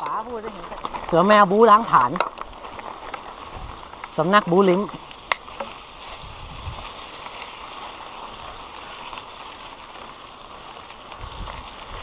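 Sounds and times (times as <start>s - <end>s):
bike tyres on grass: 0.0s - 12.0s.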